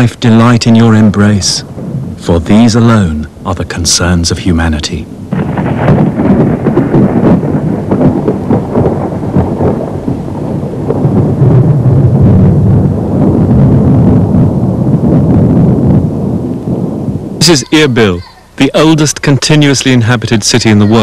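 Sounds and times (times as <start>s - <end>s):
low rumble with crackling: 0.0s - 21.0s.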